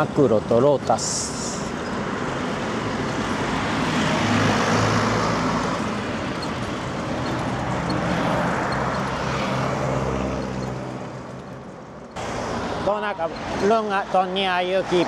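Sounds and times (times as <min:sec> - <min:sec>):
road traffic rushing: 0:00.0 - 0:15.0
vehicle engine hum: 0:00.0 - 0:15.0.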